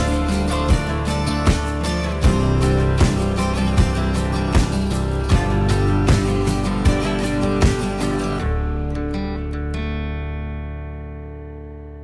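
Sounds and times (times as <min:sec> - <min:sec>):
guitar chord ringing: 0:00.0 - 0:12.0.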